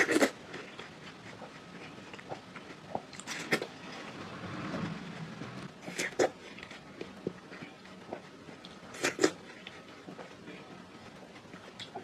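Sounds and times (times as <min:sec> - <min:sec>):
wet chewing clicks: 0:00.0 - 0:12.0.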